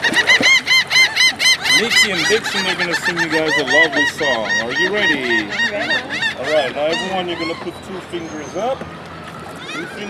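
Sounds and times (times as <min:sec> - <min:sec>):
dolphins chirping: 0:00.0 - 0:10.0.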